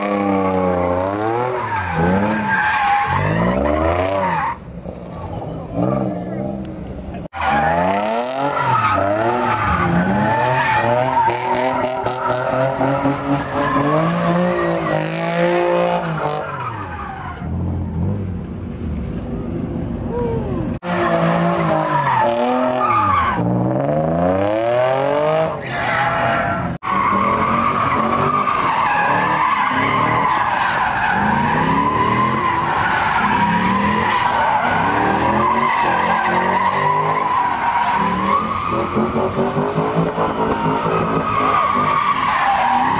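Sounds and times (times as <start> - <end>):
tires squealing: 0.0 - 18.4, 20.1 - 42.9
car engines revving: 0.0 - 42.9.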